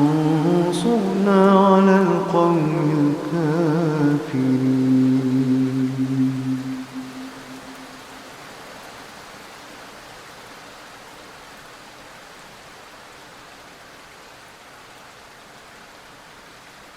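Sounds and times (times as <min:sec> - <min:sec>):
steady rain hiss: 0:00.0 - 0:16.9.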